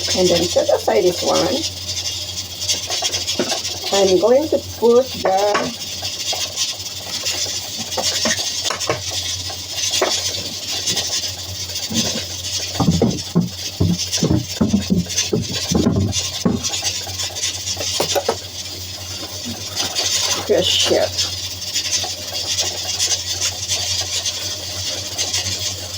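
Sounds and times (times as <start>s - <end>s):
utensils and dishes rattling: 0.0s - 25.9s.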